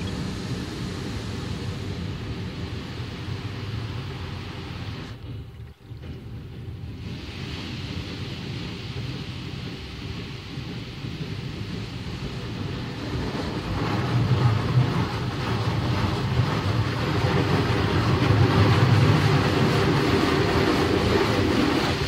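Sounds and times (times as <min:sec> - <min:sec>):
water rushing on car: 0:00.0 - 0:05.5, 0:06.6 - 0:22.0.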